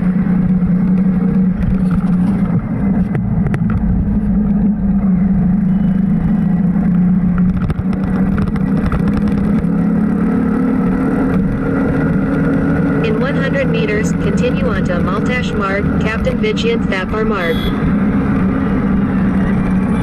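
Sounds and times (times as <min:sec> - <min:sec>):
road rumble: 0:00.0 - 0:20.0
vehicle engine humming: 0:00.0 - 0:20.0.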